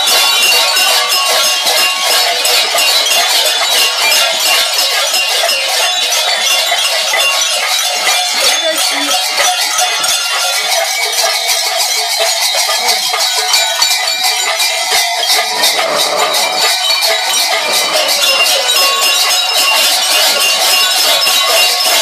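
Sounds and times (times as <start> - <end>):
bells clanging and jangling: 0.0 - 22.0.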